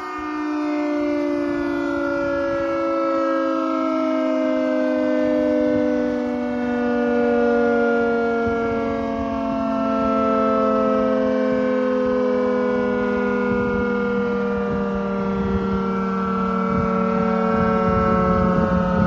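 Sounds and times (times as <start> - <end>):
air raid siren wailing: 0.0 - 19.0.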